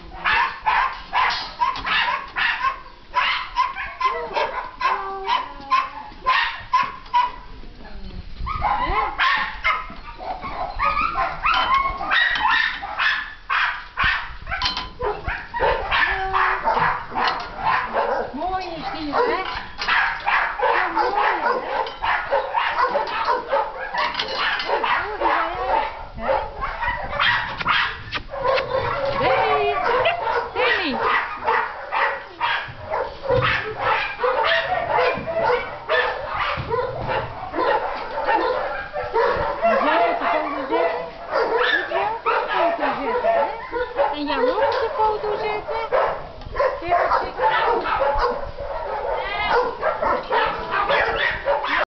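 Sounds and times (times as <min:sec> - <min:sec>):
puppies yipping and whining: 0:08.4 - 0:13.3, 0:14.0 - 0:51.8.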